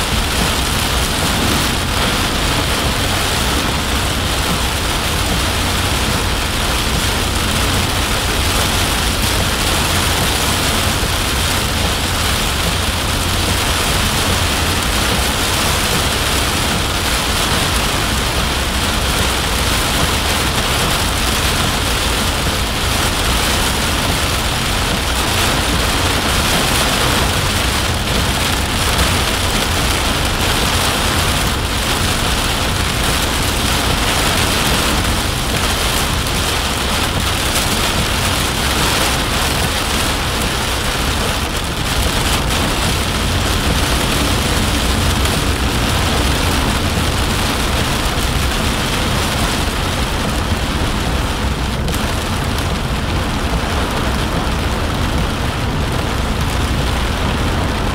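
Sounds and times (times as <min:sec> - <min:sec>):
constant low rumble: 0:00.0 - 0:57.9
heavy rain on vehicle roof: 0:00.0 - 0:57.9.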